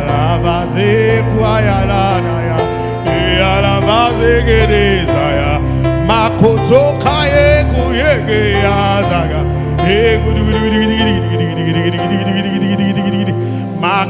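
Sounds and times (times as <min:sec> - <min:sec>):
live band playing gospel music: 0:00.0 - 0:14.0.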